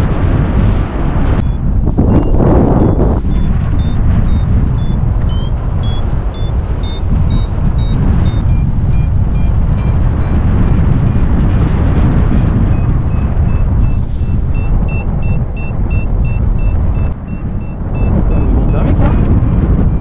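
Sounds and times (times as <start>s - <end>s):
wind buffeting microphone: 0.0s - 20.0s
variometer beeping: 1.4s - 20.0s.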